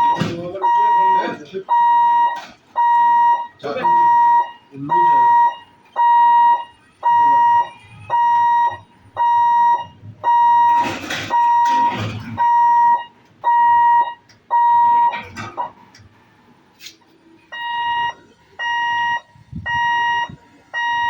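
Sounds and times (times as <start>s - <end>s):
level crossing alarm beeping: 0.0s - 15.8s, 17.5s - 21.0s.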